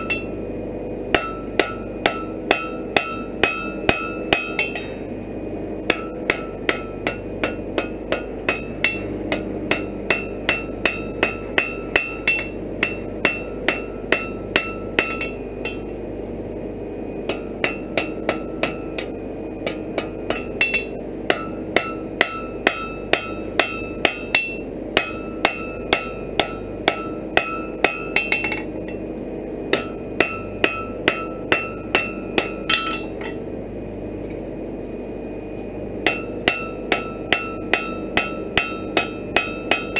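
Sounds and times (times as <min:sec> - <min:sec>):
hammer striking iron on anvil: 0:00.0 - 0:05.1, 0:05.8 - 0:15.9, 0:17.2 - 0:29.0, 0:29.7 - 0:33.5, 0:36.0 - 0:39.9.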